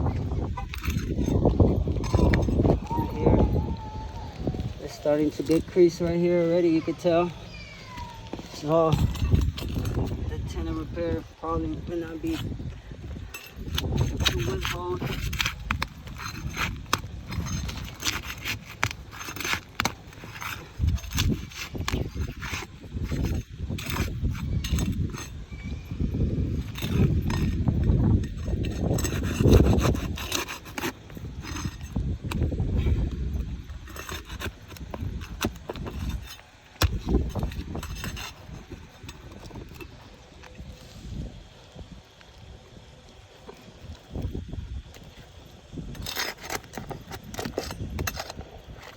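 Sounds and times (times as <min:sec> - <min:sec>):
scraping and clicks on roof shingles: 0:00.0 - 0:03.1, 0:07.8 - 0:48.9.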